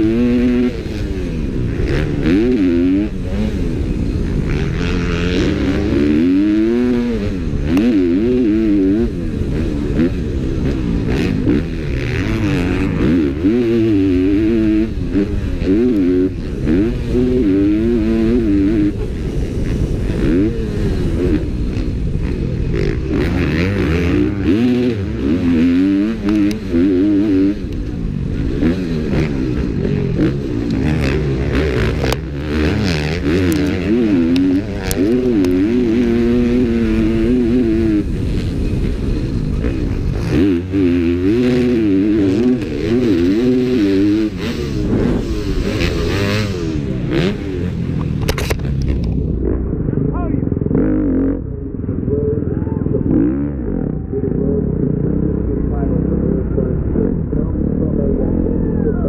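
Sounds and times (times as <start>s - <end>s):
motorcycle engine racing: 0.0s - 59.0s.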